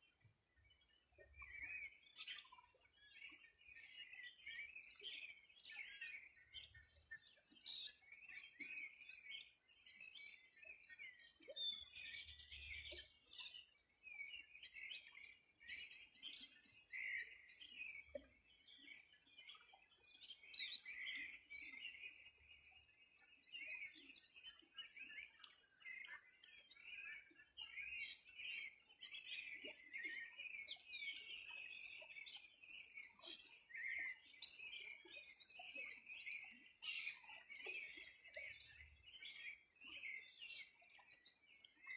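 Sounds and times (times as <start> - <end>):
birds chirping and singing: 0.8 - 41.9.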